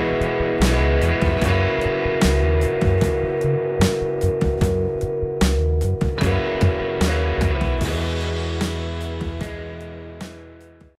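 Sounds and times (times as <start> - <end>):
background music with held chords: 0.0 - 10.9.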